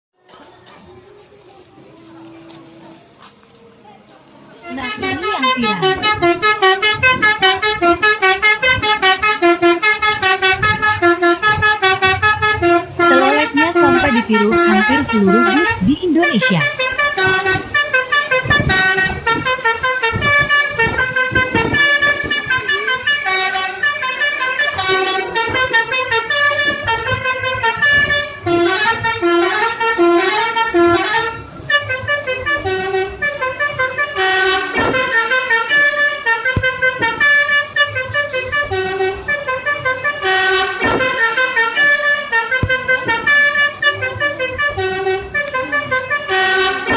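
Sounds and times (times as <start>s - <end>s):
musical air horn tune: 4.6s - 46.9s.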